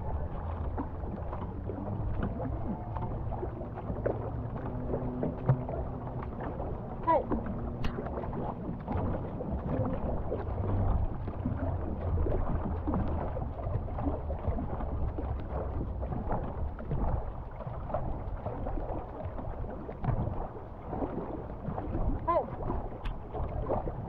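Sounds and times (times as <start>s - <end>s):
paddles splashing water: 0.0s - 24.0s
wind rumbling on microphone: 0.0s - 24.0s.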